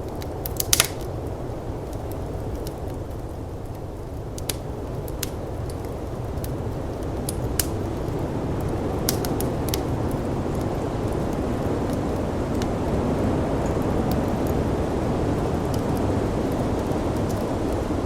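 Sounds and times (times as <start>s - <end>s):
blizzard wind rushing: 0.0s - 18.0s
wood fire crackling and popping: 0.0s - 18.0s.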